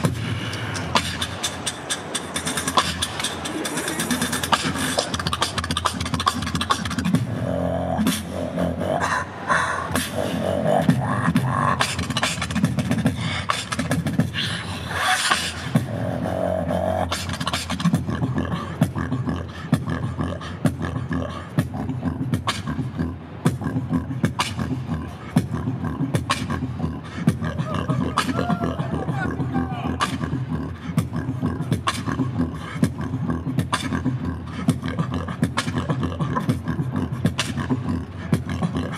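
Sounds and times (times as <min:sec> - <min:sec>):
beatboxing through speakers: 0:00.0 - 0:38.9.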